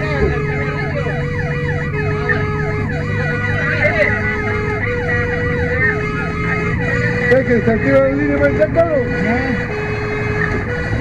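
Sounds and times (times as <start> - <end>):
fire engine sirens yelping: 0.0 - 11.0
truck engines rumbling: 0.0 - 11.0.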